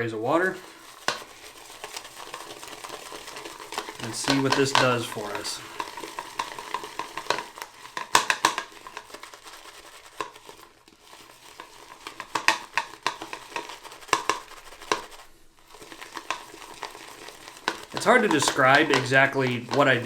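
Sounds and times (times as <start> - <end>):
shaving brush wet swishes: 0.3 - 20.0.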